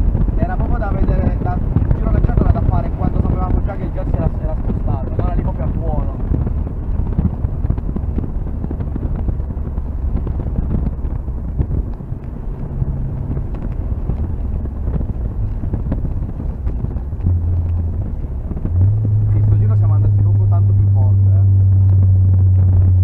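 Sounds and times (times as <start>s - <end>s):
car engine: 0.0s - 23.0s
road noise inside car: 0.0s - 23.0s
wind buffeting on microphone: 0.0s - 23.0s.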